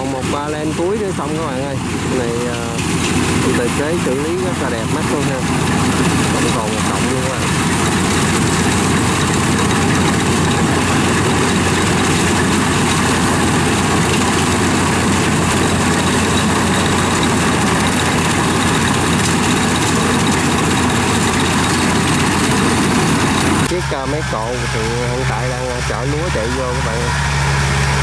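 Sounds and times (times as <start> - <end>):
combine harvester diesel engine: 0.0 - 28.0
cutting and threshing gear: 1.2 - 28.0.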